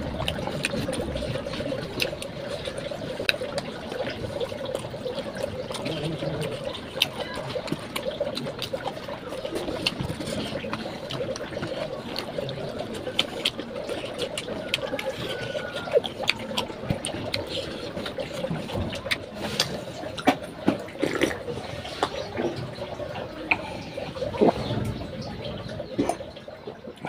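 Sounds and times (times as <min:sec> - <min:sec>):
wet chewing: 0:00.0 - 0:27.0.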